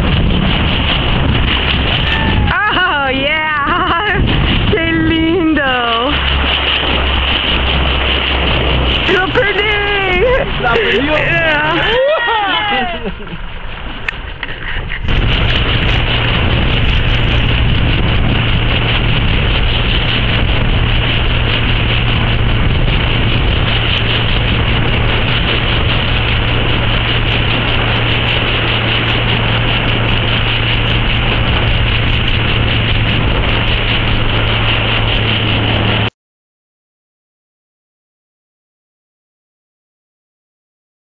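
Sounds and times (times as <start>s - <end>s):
motorboat engine humming: 0.0s - 36.1s
wind and water noise: 0.0s - 36.1s.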